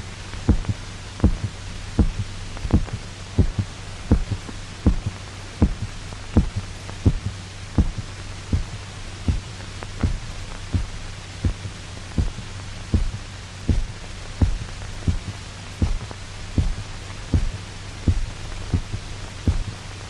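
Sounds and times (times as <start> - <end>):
steady low hum: 0.0 - 20.0
amplified heart beating: 0.4 - 19.8.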